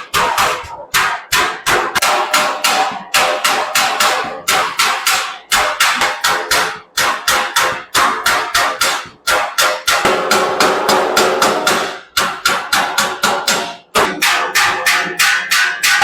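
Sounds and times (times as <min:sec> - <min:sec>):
hammer striking sheet metal: 0:00.0 - 0:16.0.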